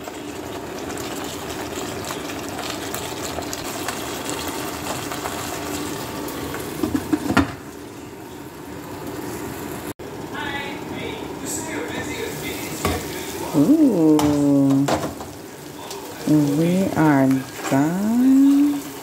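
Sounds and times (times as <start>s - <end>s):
sauce bubbling in a pot: 0.0s - 9.2s, 9.8s - 19.0s.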